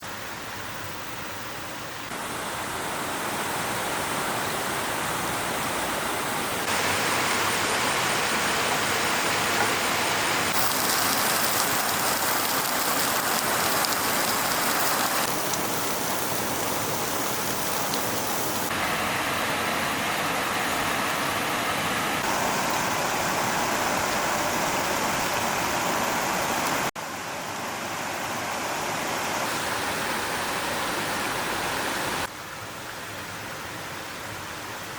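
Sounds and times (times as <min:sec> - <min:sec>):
stream water rushing over rocks: 0:02.1 - 0:34.9.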